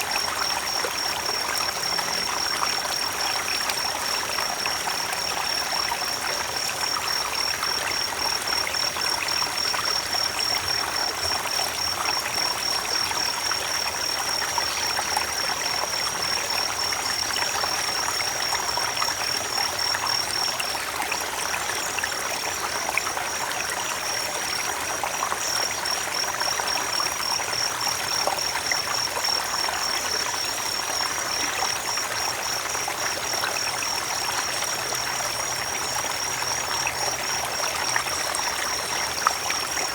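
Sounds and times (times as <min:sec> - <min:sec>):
creek water trickling over stones: 0:00.0 - 0:39.9.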